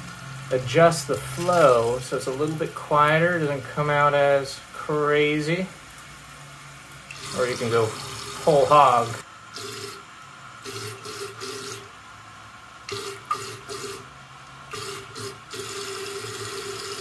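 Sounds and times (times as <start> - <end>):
water hissing into toilet tank: 0.0 - 12.0, 12.8 - 17.0.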